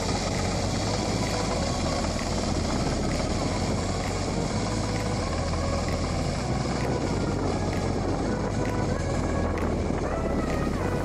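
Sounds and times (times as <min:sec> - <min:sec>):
rotavator engine running: 0:00.0 - 0:11.0.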